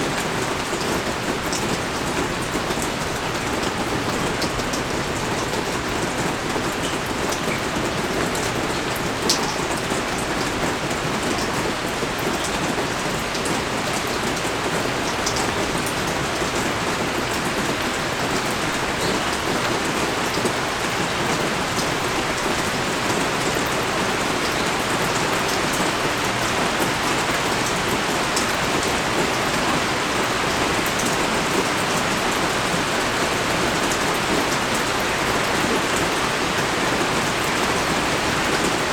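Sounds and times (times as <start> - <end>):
steady pouring rain: 0.0 - 38.9.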